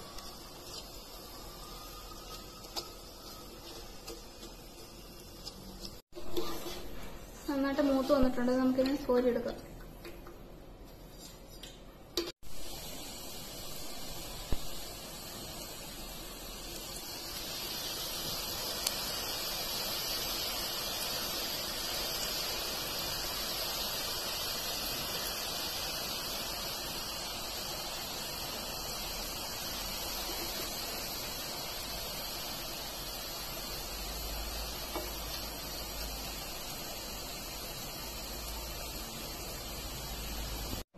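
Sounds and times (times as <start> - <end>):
dough deep-frying in hot oil: 0.0 - 40.9.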